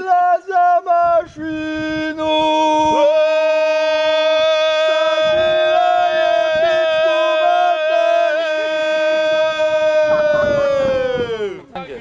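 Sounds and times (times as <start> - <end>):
men singing in harmony: 0.0 - 11.7.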